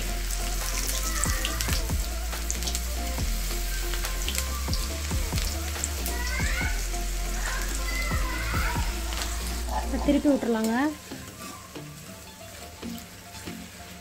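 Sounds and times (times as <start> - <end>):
deep-frying sizzle with pops: 0.0 - 14.0.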